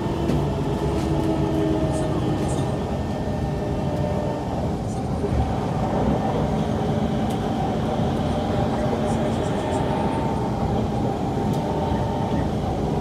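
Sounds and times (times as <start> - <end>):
train humming tones: 0.0 - 13.0
train interior rumble: 0.0 - 13.0.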